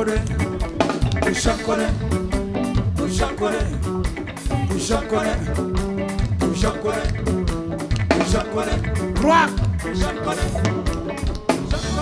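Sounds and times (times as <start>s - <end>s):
bass line: 0.0s - 12.0s
drum kit: 0.0s - 12.0s
guitar: 0.0s - 12.0s.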